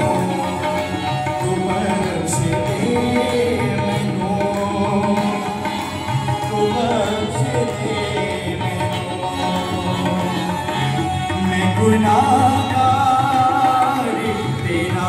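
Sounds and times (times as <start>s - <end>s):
harmonium playing reedy chords: 0.0s - 15.0s.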